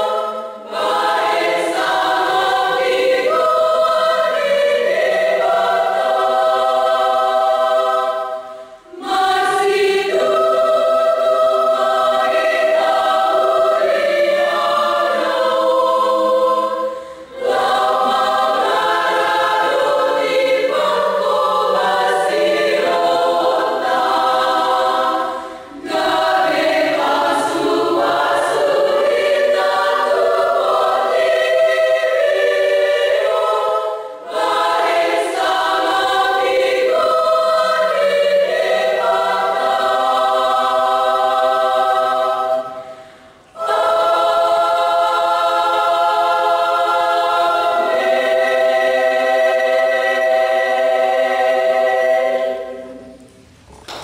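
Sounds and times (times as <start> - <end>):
women's choir singing: 0.0 - 54.0.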